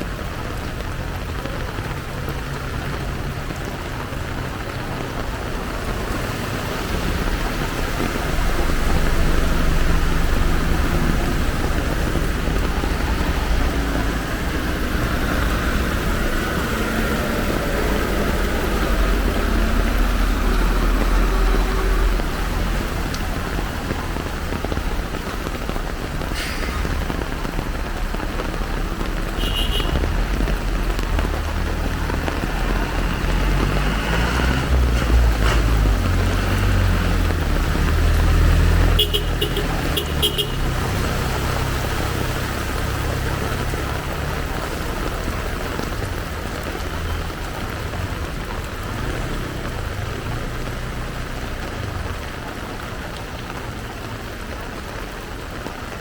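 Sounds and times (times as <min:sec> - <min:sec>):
heavy rain hiss: 0:00.0 - 0:56.0
motor vehicle rumbling: 0:00.0 - 0:56.0.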